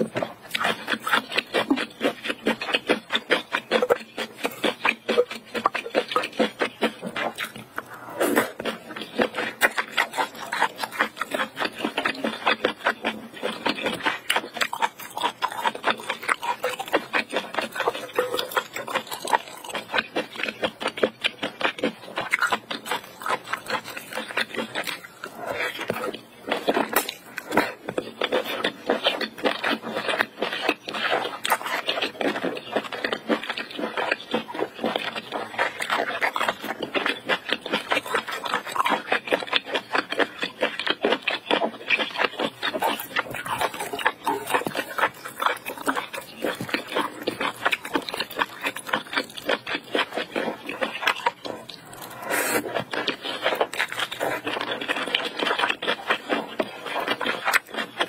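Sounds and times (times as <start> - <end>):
wet chewing mouth clicks: 0.0 - 58.0.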